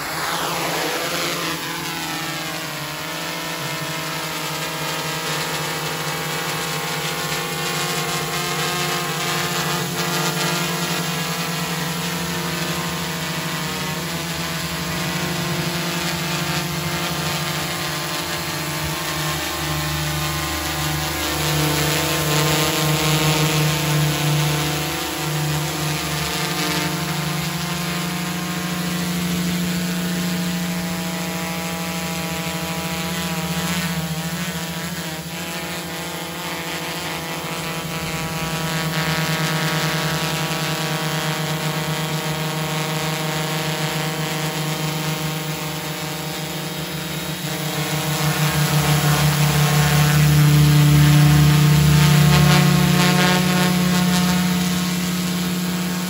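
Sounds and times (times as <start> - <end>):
quadcopter propellers humming: 0.0 - 56.0.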